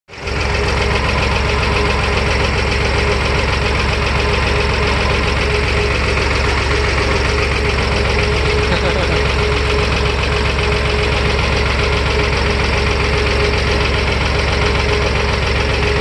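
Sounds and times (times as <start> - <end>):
tractor diesel engine chugging: 0.1 - 16.0.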